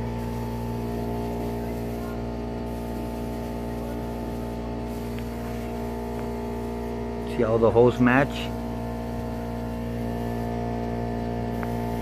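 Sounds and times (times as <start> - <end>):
droning hum: 0.0 - 12.0.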